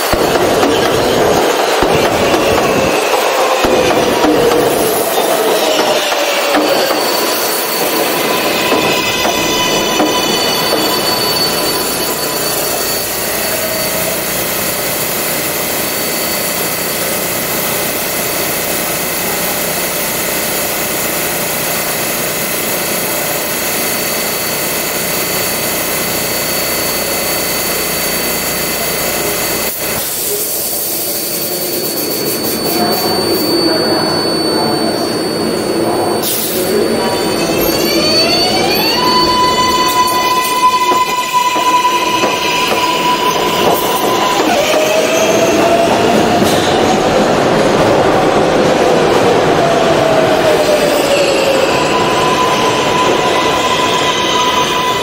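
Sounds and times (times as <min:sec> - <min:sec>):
subway car equipment humming: 0:00.0 - 0:55.0
traction motors whining: 0:00.0 - 0:55.0.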